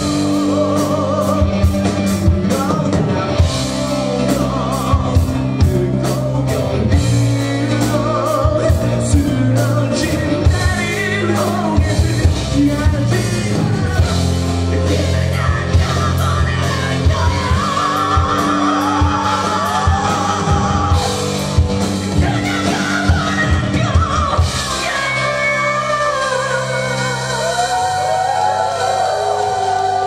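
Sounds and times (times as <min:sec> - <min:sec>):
live rock band playing: 0:00.0 - 0:30.0
man singing: 0:00.0 - 0:30.0.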